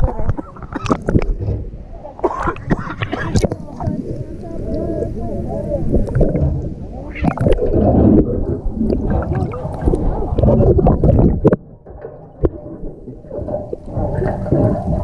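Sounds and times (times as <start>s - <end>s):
water sloshing and bubbling: 0.0s - 15.0s.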